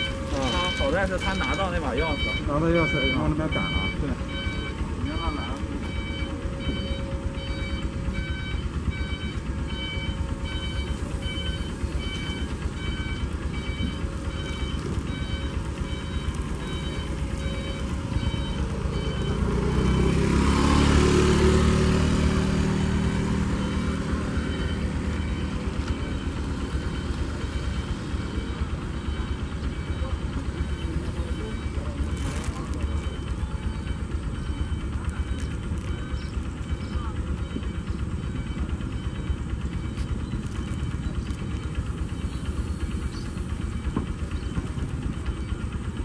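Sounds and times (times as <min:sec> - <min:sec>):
machinery hum: 0:00.0 - 0:20.3, 0:21.0 - 0:46.0
electronic warning beep: 0:00.0 - 0:46.0
train wheels rumbling on rail: 0:00.0 - 0:46.0.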